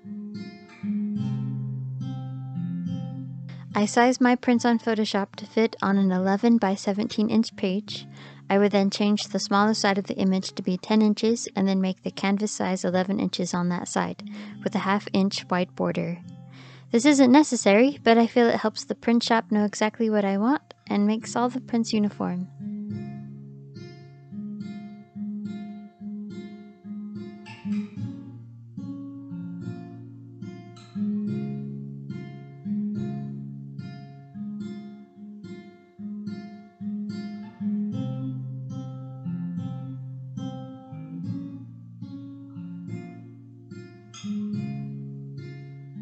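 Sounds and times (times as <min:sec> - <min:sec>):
acoustic guitar melody: 0:00.0 - 0:46.0.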